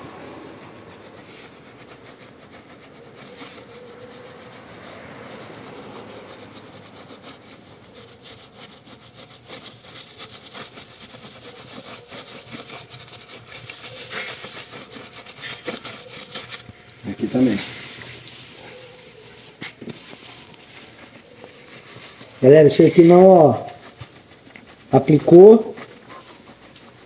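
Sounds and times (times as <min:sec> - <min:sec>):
brush scrubbing car paint: 0:00.0 - 0:27.0.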